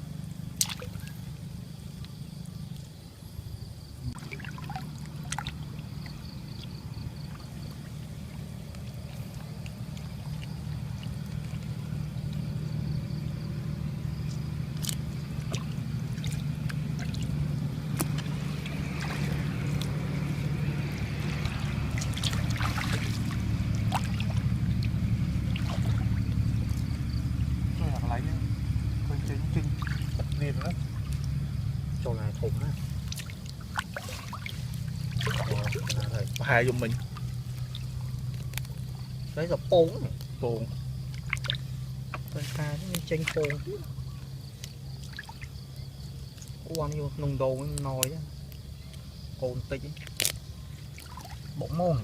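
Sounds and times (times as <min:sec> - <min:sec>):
water trickling and splashing: 0:00.4 - 0:52.0.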